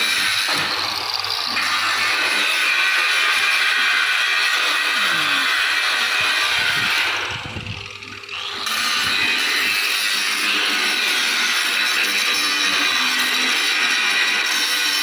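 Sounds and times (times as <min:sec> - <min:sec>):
power tool cutting or grinding: 0:00.0 - 0:15.0.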